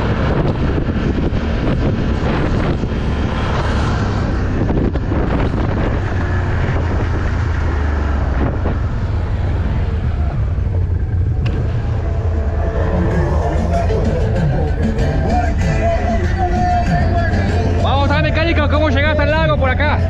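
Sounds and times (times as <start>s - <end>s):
off-road vehicle engine droning: 0.0s - 20.0s
wind buffeting microphone: 0.0s - 20.0s.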